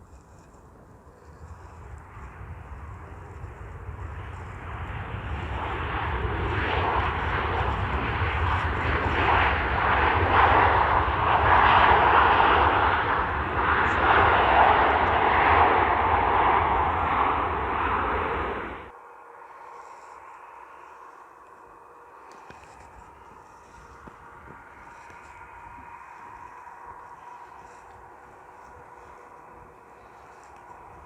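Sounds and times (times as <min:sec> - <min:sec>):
wind buffeting microphone: 0:00.0 - 0:18.9, 0:22.4 - 0:31.0
airliner engines passing: 0:00.0 - 0:31.0.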